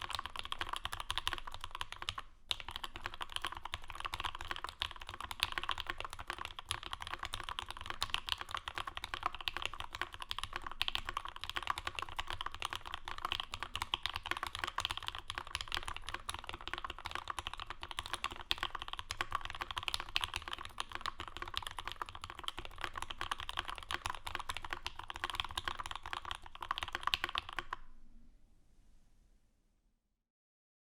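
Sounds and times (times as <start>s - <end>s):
typing on mechanical keyboard: 0.0s - 27.8s.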